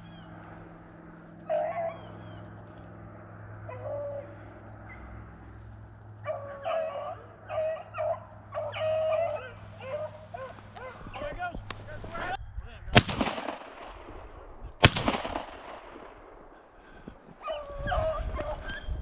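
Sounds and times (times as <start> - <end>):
beagles baying: 0.0 - 12.3, 15.1 - 18.9.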